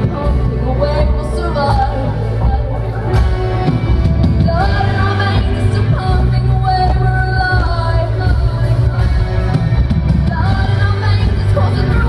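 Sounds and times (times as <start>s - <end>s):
heavy bass line: 0.0s - 12.0s.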